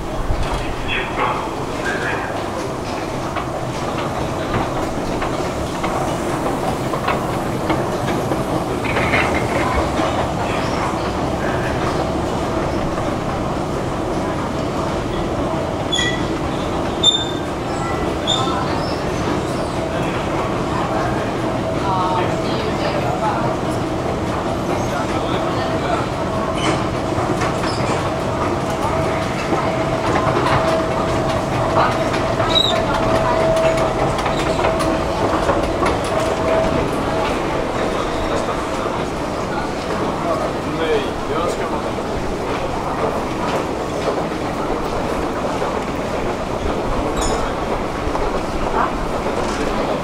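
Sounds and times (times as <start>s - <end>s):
metro station rumble: 0.0s - 50.0s.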